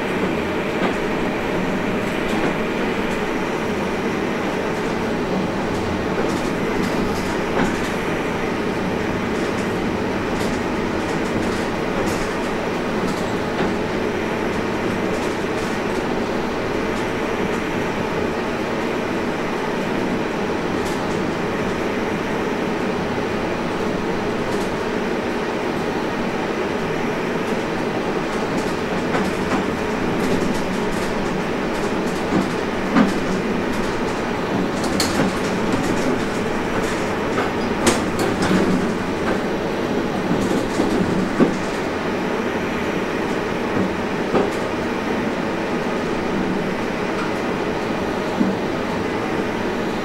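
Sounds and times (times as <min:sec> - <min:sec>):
wheels clacking over rail joints: 0:00.0 - 0:19.0, 0:26.9 - 0:50.0
train running gear rumble: 0:00.0 - 0:50.0.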